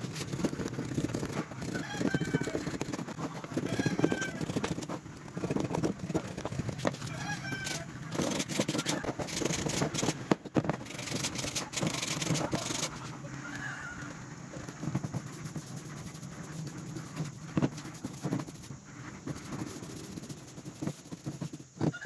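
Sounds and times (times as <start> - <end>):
metal tool scraping wood: 0.0 - 13.2, 14.6 - 22.0.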